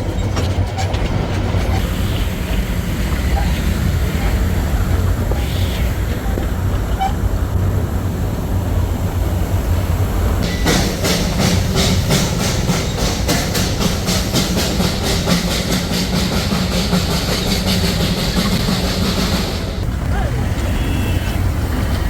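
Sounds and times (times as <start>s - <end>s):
quick regular train beat: 0.0s - 22.0s
train rumbling on board: 0.0s - 22.0s.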